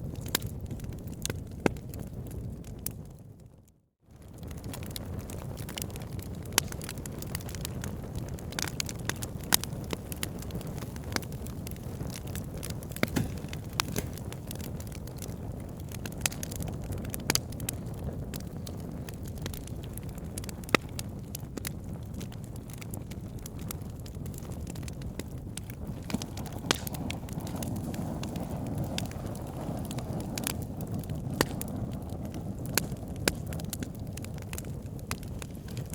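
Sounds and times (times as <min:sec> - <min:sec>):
burning wood crackling and popping: 0:00.0 - 0:35.9
fire low rumble: 0:00.0 - 0:35.9.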